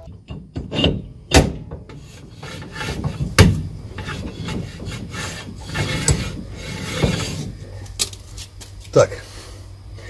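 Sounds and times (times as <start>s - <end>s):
brake drum scraping: 0.0s - 9.1s.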